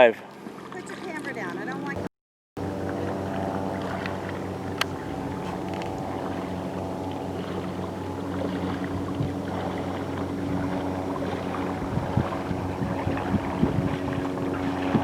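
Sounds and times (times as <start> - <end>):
low mechanical hum: 1.6 - 15.0.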